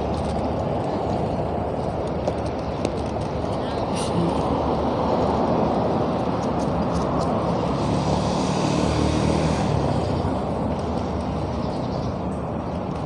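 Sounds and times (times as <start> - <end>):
passing vehicle engine hum: 0.0 - 13.0
road noise from bicycle: 0.0 - 13.0
wind rush on microphone: 0.0 - 13.0.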